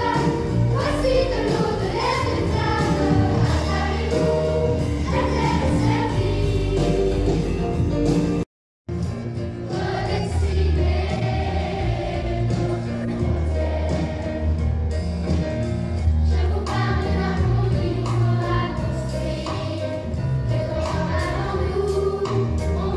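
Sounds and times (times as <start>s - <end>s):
children's choir singing: 0.0s - 7.5s, 9.7s - 14.7s, 16.2s - 22.9s
instrumental accompaniment: 0.0s - 22.9s.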